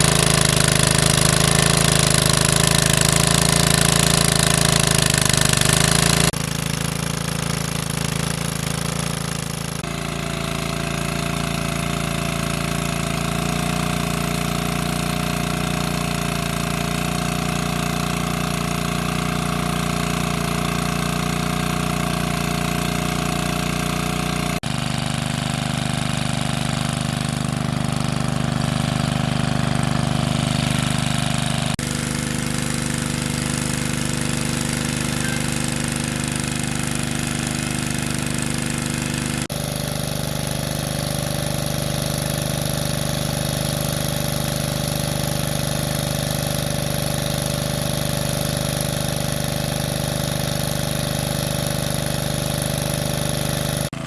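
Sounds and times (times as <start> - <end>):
water pump engine running: 0.0 - 54.0.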